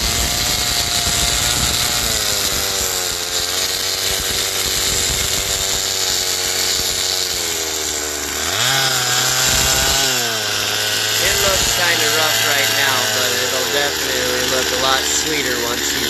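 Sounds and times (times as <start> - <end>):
chainsaw cutting log: 0.0 - 16.0.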